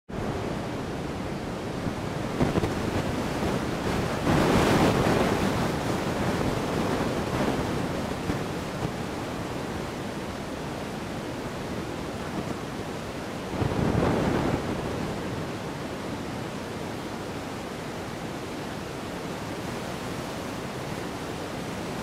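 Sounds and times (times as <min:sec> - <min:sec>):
wind blowing across microphone: 0:00.1 - 0:22.0.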